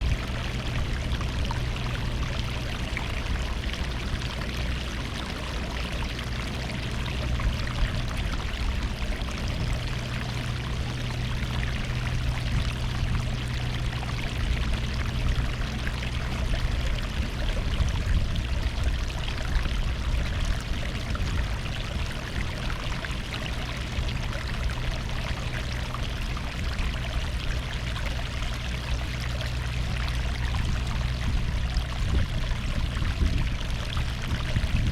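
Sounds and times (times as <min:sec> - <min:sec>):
low rumble: 0:00.0 - 0:34.9
sea water washing along shore: 0:00.0 - 0:34.9.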